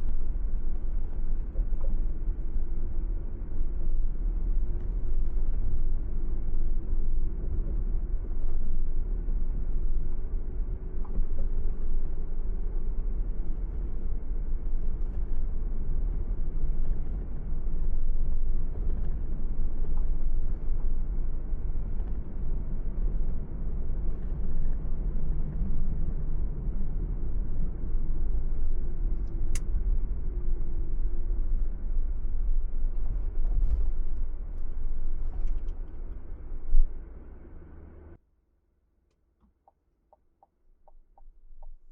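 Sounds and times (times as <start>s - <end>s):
car engine and tyre rumble: 0.0s - 38.2s.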